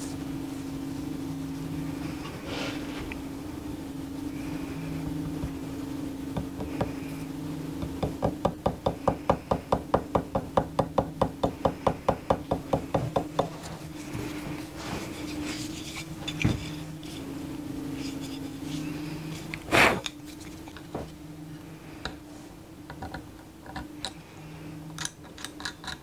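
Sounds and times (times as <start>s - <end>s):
low workshop hum: 0.0s - 26.0s.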